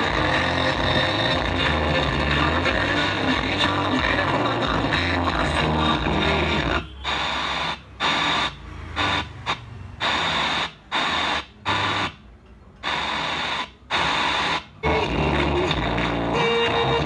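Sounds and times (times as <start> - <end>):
noisy radio-like sound from speaker: 0.0 - 17.0.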